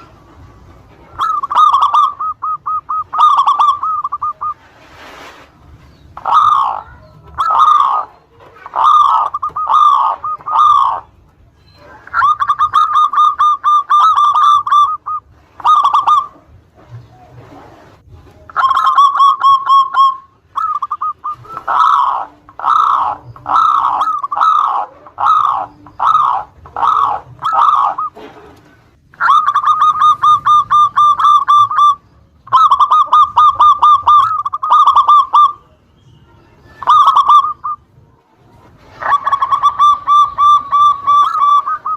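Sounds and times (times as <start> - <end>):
dove cooing: 0.0 - 5.0, 5.9 - 35.8, 36.7 - 41.9.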